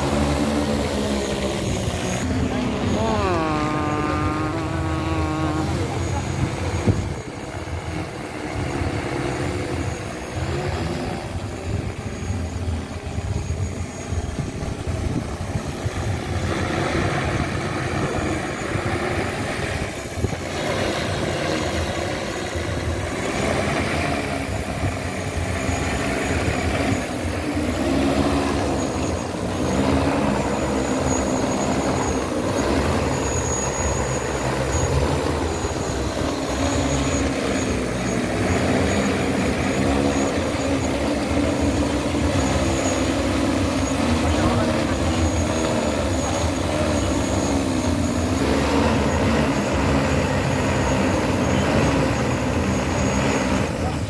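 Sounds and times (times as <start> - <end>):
drone rotors hovering: 0.0 - 54.0.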